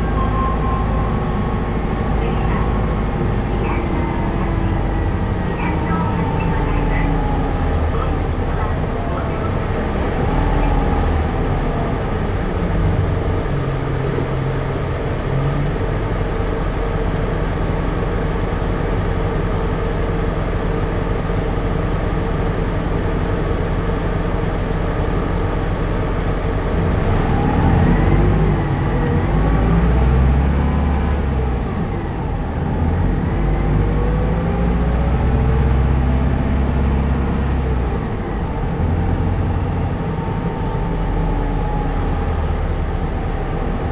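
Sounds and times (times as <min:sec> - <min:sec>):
bus diesel engine running: 0:00.0 - 0:43.9
road rumble: 0:00.0 - 0:43.9.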